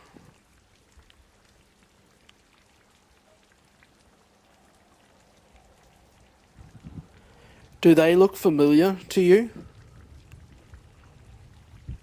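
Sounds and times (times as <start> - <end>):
faint steady rain: 0.0 - 12.0.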